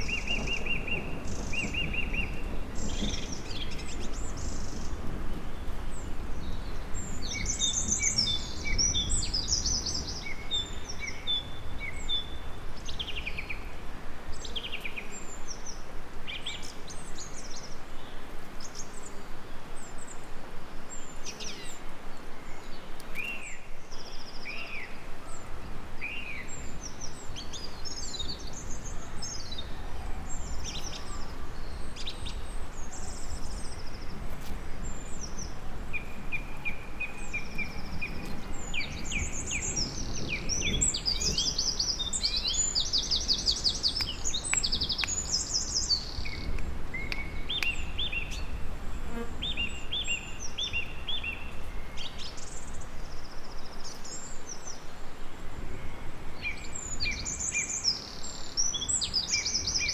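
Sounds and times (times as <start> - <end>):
low background noise: 0.0 - 59.9
songbirds chirping: 0.0 - 59.9.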